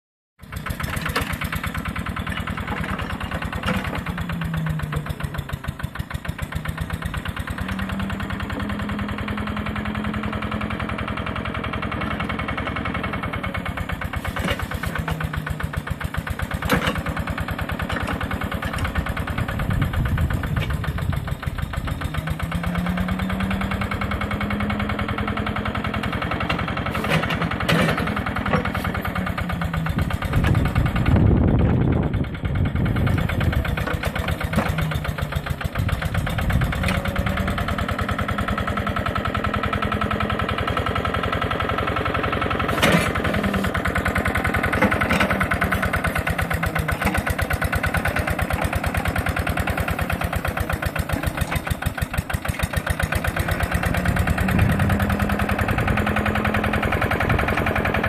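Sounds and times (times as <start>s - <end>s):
digger engine running: 0.4s - 58.0s.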